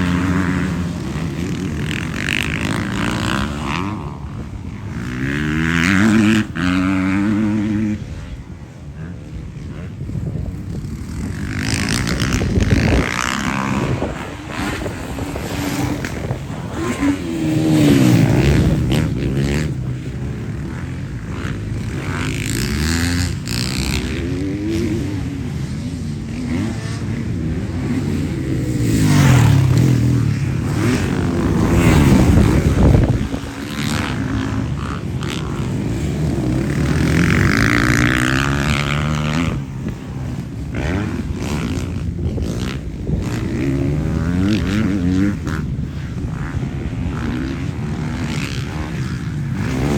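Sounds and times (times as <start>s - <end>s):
motorcycle engines revving: 0.0s - 49.9s.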